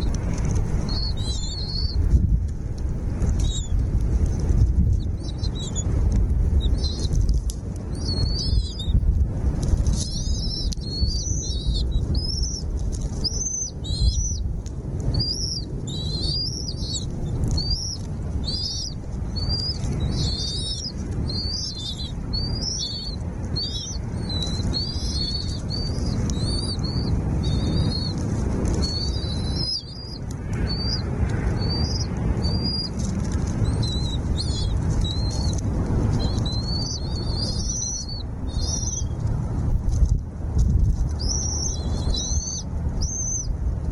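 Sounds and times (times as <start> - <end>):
small birds chirping: 0.0 - 43.9
steady low rumble: 0.0 - 43.9.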